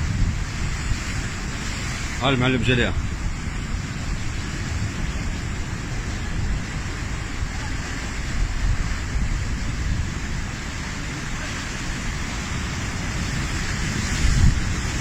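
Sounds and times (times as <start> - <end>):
heavy sea surf rushing: 0.0 - 15.0
wind buffeting microphone: 0.0 - 15.0.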